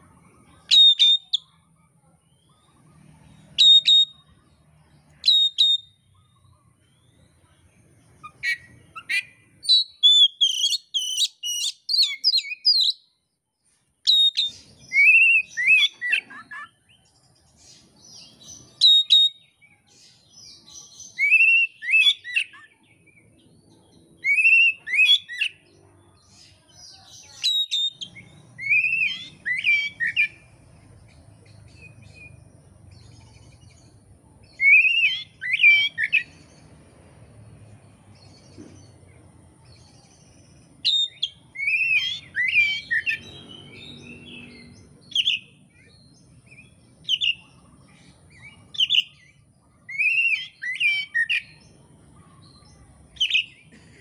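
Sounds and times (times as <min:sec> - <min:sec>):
bird singing whistled notes: 0:00.0 - 0:01.7, 0:02.3 - 0:13.3, 0:14.0 - 0:36.8, 0:39.6 - 0:51.7, 0:52.6 - 0:53.6.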